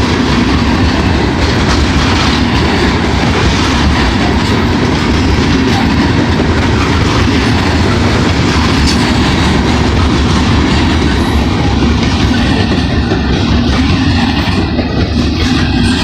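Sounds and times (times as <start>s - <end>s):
freight cars rolling on rails: 0.0s - 16.0s.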